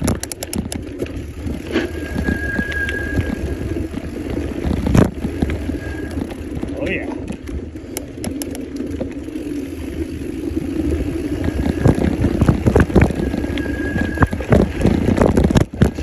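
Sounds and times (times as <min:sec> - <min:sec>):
bike rattling and knocking: 0:00.0 - 0:16.0
mountain bike tyre and frame noise: 0:00.0 - 0:16.0.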